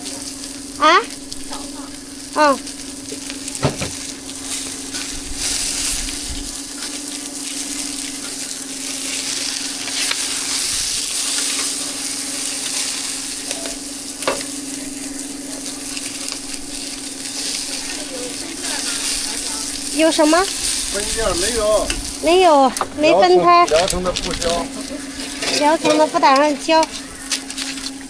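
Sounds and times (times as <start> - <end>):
flatbread sizzling in oil: 0.0 - 23.2, 23.8 - 28.0.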